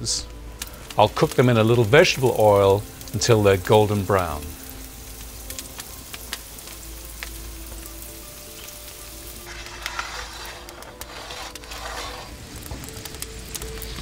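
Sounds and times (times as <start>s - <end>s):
oil crackling: 0.0s - 14.0s
potatoes sizzling in oil: 0.0s - 14.0s.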